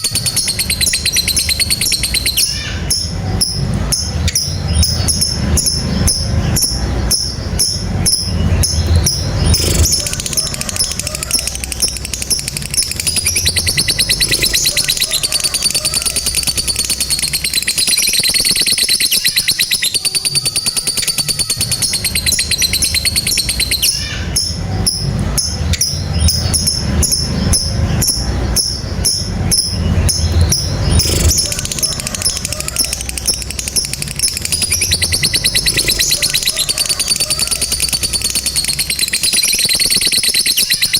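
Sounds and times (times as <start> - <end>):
lovebird chattering trill: 0.0 - 40.9.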